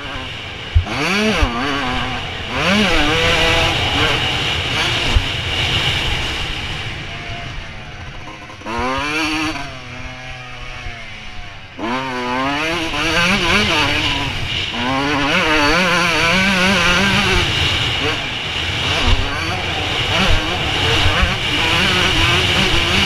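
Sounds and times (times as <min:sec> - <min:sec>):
two-stroke motorcycle engine revving: 0:00.0 - 0:23.0.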